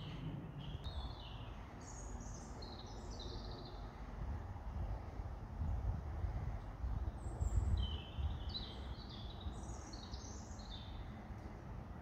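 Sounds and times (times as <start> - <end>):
low outdoor rumble: 0.0 - 12.0
songbird singing: 0.0 - 12.0.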